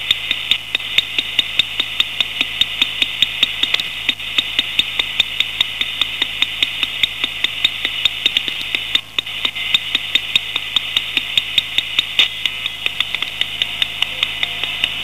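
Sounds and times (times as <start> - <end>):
electronic line noise hiss: 0.0 - 15.0
faint low hum: 0.0 - 15.0
sharp crackling clicks: 0.0 - 15.0.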